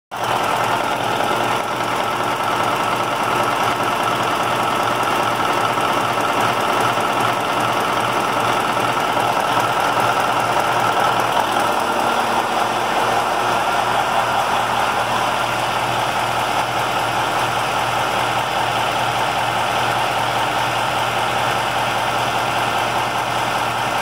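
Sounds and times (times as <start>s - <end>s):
diesel engine running steadily: 0.2s - 24.0s.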